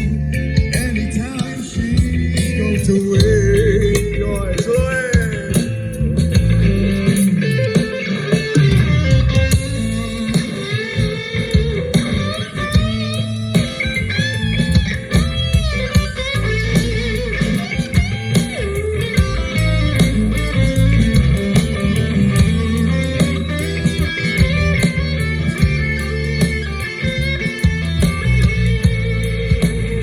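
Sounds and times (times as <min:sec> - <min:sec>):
electric guitar solo: 0:00.0 - 0:30.0
heavy bass line: 0:00.0 - 0:30.0.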